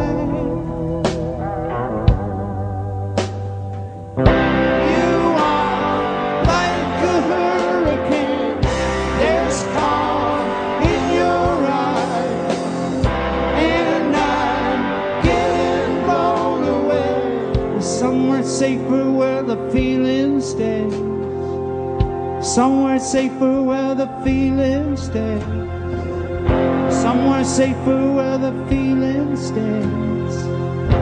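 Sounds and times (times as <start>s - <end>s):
bass: 0.0s - 31.0s
electric guitar lead with bent notes: 0.0s - 31.0s
sustained guitar chords: 0.0s - 31.0s.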